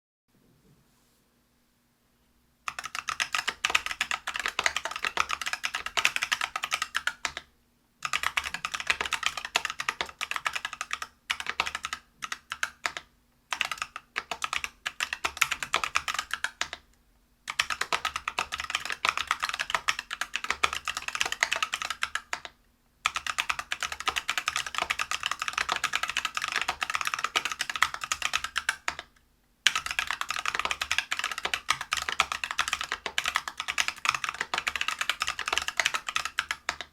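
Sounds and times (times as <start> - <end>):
mechanical keyboard typing: 2.7 - 16.8, 17.5 - 36.9.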